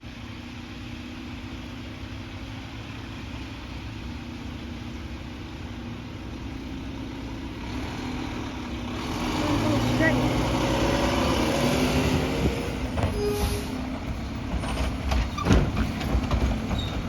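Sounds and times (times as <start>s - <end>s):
vehicle engine idling: 0.0s - 10.6s, 12.7s - 17.0s.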